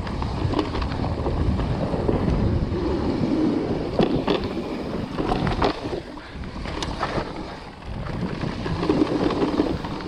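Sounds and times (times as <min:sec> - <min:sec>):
bike rattling over bumps: 0:00.0 - 0:10.0
tyres rolling over dirt: 0:00.0 - 0:10.0
wind rushing over microphone: 0:00.0 - 0:10.0.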